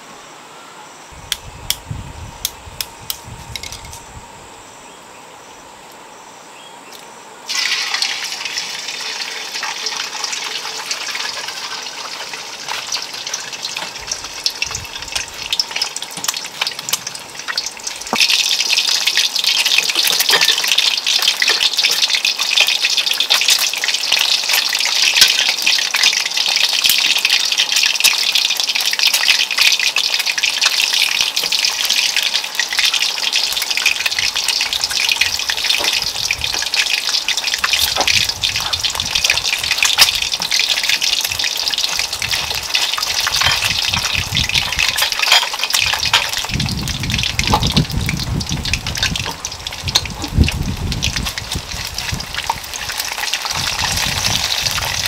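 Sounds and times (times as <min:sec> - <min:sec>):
eggs sizzling in hot oil: 0:07.5 - 0:55.0.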